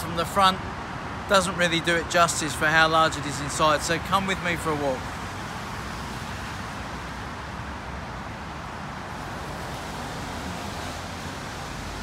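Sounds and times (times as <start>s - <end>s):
distant traffic hiss and rumble: 0.0s - 12.0s.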